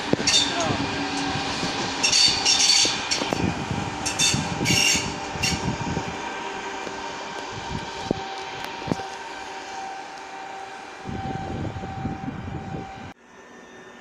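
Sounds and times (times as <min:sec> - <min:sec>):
wheels clacking over rail joints: 0:00.0 - 0:11.4
train running hum: 0:00.0 - 0:14.0.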